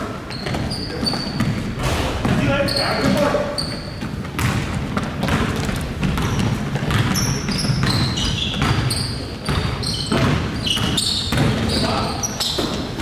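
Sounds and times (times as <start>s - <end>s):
sneaker squeaks: 0.0s - 13.0s
basketball bouncing on floor: 0.3s - 13.0s.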